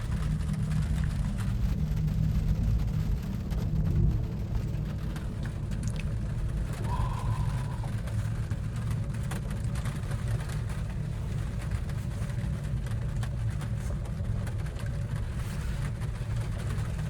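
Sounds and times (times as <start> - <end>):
gondola cabin rumble and hum: 0.0 - 17.0.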